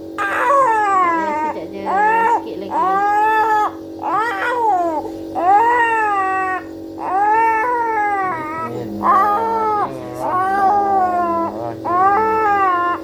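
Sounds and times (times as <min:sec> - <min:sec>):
nebuliser compressor humming: 0:00.0 - 0:13.0
young child crying: 0:00.2 - 0:13.0.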